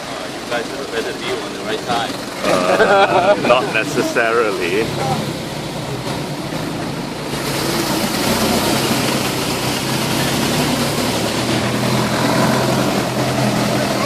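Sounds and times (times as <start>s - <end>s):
heavy vehicle engine running: 0.0s - 14.0s
loud even rushing noise: 1.6s - 14.0s.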